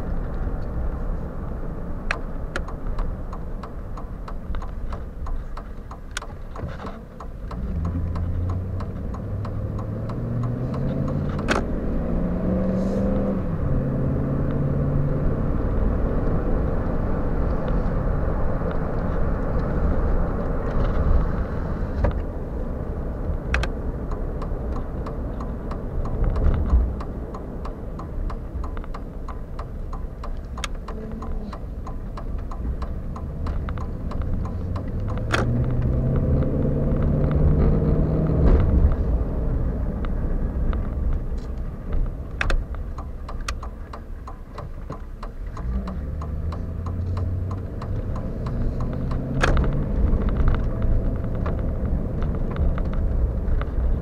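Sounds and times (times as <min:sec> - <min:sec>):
road noise inside cab: 0:00.0 - 0:54.0
truck engine accelerating: 0:00.0 - 0:54.0.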